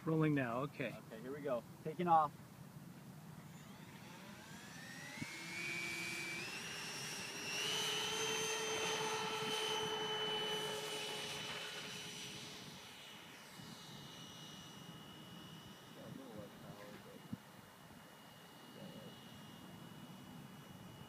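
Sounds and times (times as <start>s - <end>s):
model airplane motor whine: 2.8s - 21.0s.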